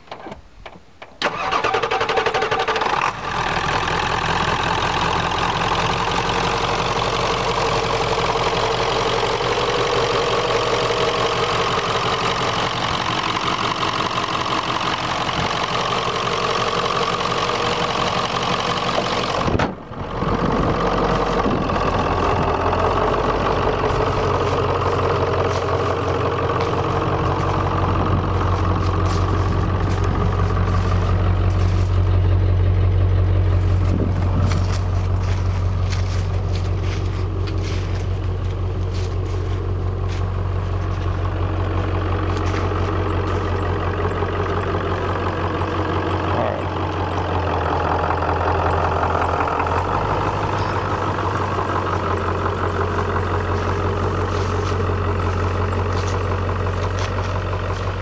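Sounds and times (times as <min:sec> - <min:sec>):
diesel truck engine idling: 0:01.2 - 0:58.0.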